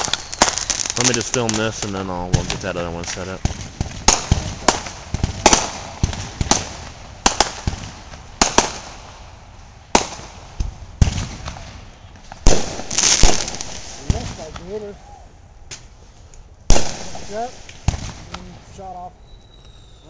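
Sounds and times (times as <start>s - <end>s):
fireworks bangs: 0.0s - 15.0s, 16.7s - 19.1s.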